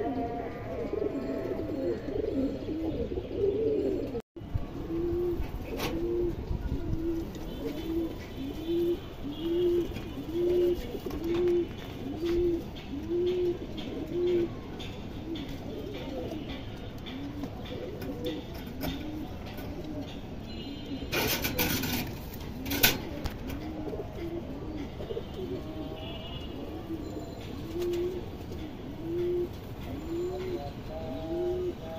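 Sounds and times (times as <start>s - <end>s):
pigeon cooing: 0.0s - 4.2s, 4.9s - 14.6s, 15.4s - 26.0s, 26.6s - 31.9s.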